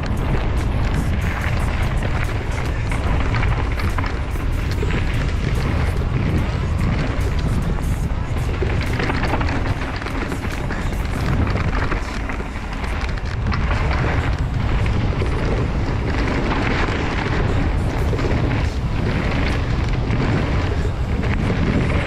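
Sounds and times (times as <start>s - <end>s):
bike tyres rumbling on dirt: 0.0s - 22.0s
wind buffeting microphone: 0.0s - 22.0s.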